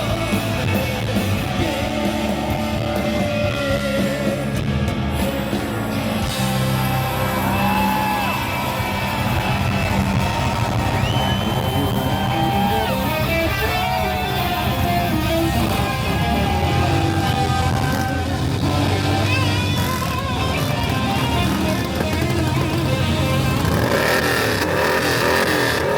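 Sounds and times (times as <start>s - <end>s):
steady low bass: 0.0s - 25.5s
electric guitar bending notes: 0.0s - 25.9s.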